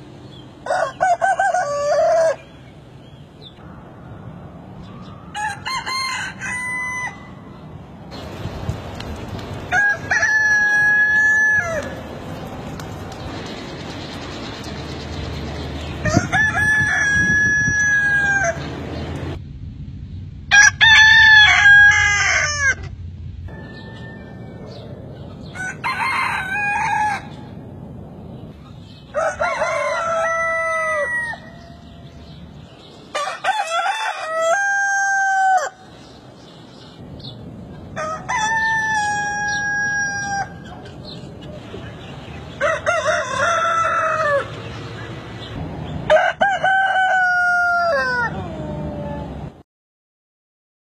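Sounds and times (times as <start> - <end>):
roosters crowing: 0.6 - 2.7, 4.9 - 13.3, 14.6 - 19.4, 20.5 - 27.7, 28.9 - 36.2, 37.2 - 49.6.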